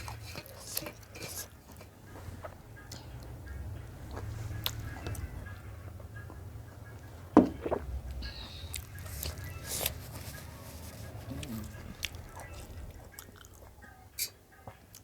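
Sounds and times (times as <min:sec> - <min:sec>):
mouth eating sounds: 0:00.0 - 0:05.6, 0:06.4 - 0:15.0
low steady hum: 0:00.0 - 0:14.6.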